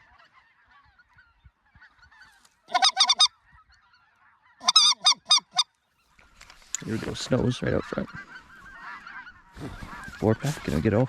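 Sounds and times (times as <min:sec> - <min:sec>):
geese honking: 0:00.0 - 0:06.1, 0:06.8 - 0:11.0
distant flock chatter: 0:00.0 - 0:06.2, 0:06.8 - 0:11.0.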